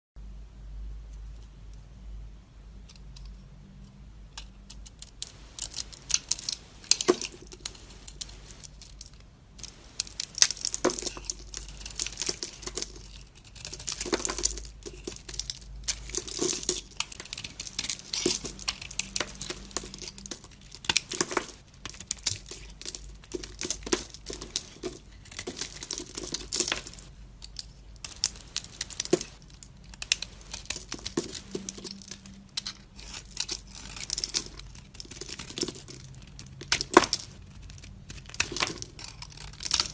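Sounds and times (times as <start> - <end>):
knife cutting soap crackling: 4.6 - 39.9.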